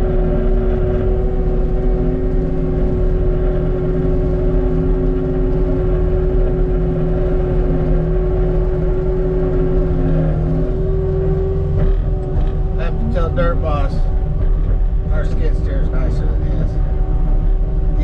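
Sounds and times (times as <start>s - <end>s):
diesel engine rumble: 0.0s - 18.0s
steady whine: 0.0s - 18.0s.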